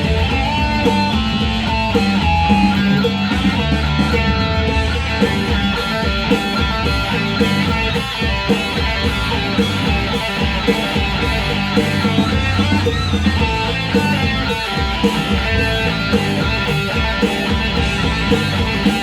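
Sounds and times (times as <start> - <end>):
guitar rock music: 0.0 - 19.0.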